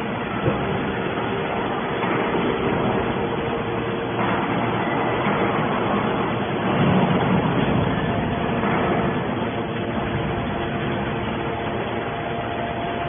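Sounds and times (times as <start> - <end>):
baler motor and pump drone: 0.0 - 13.0
workshop noise: 0.0 - 13.0.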